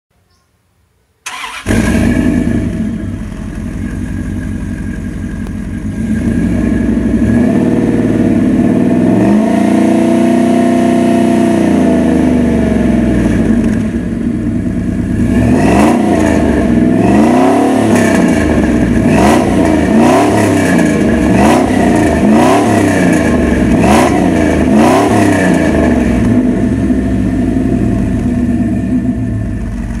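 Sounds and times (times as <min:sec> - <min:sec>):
truck engine idling and revving: 0:01.3 - 0:30.0.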